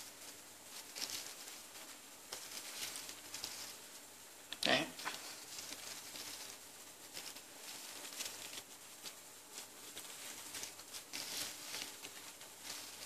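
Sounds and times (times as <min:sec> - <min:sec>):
dry plants rustling and crackling: 0:00.0 - 0:13.0.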